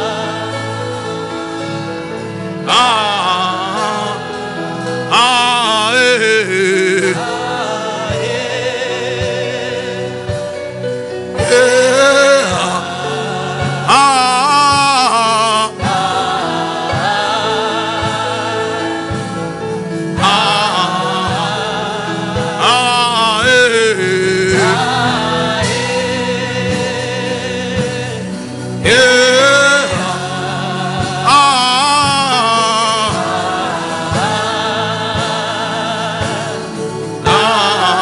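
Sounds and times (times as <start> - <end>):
person singing with vibrato: 0.0 - 38.0
sustained backing chords: 0.0 - 38.0
low drum beat: 6.7 - 38.0.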